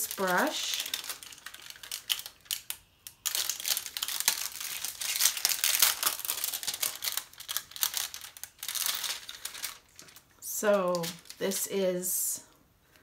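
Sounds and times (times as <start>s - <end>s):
plastic wrap and paper crinkling: 0.0s - 11.8s.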